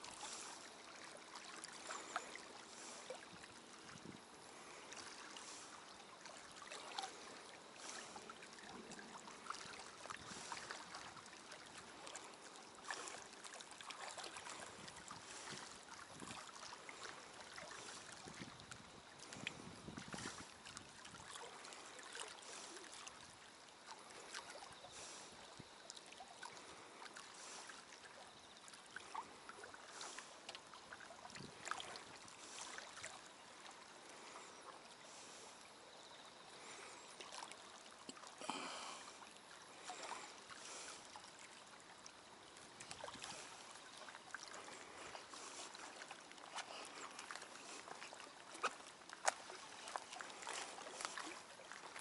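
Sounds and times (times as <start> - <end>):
small waves lapping: 0.0 - 52.0.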